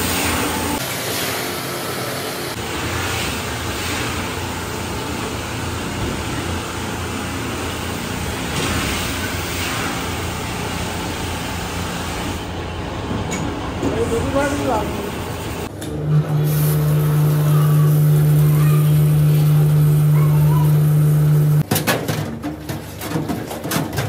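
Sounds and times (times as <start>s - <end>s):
machine hum and hiss: 0.0s - 21.6s.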